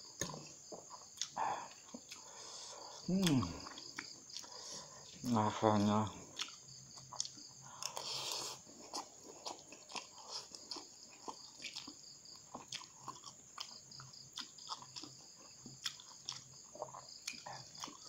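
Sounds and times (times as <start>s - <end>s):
wet chewing with smacking: 0.0s - 18.0s.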